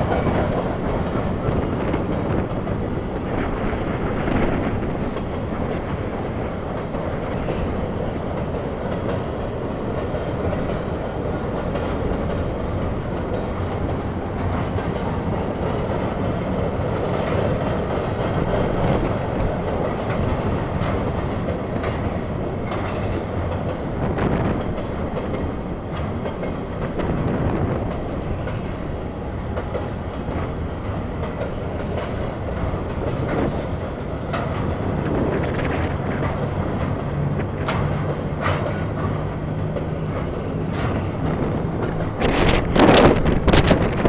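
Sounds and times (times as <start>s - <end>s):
train wheels rumbling on rail: 0.0s - 44.0s
wheels clicking over rail joints: 0.0s - 44.0s.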